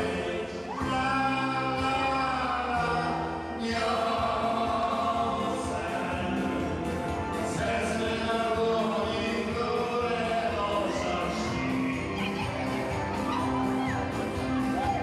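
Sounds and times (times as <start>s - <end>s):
dance music: 0.0s - 15.0s
group of voices singing: 0.0s - 15.0s.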